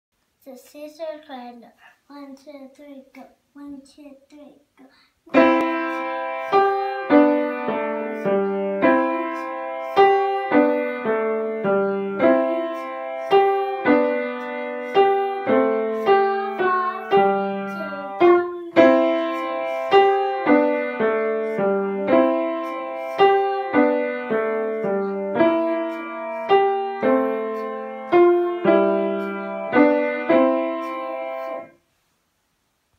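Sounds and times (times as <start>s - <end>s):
grand piano piece: 5.3s - 31.8s.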